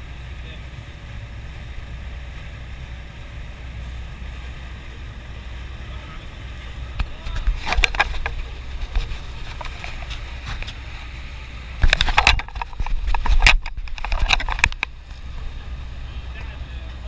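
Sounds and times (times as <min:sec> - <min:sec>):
boat engine drone: 0:00.0 - 0:17.0
loud buffeting bursts: 0:00.0 - 0:17.0
rush of boat wake: 0:00.0 - 0:17.0.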